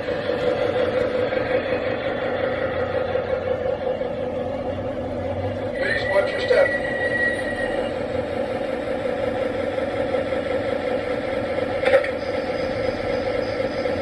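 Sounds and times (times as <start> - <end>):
model train diesel engine sound: 0.0 - 14.0.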